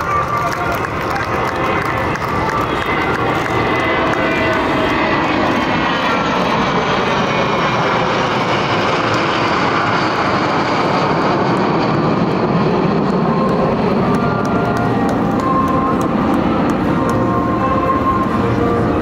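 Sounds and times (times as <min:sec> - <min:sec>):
jet engines roaring past: 0:00.0 - 0:19.0.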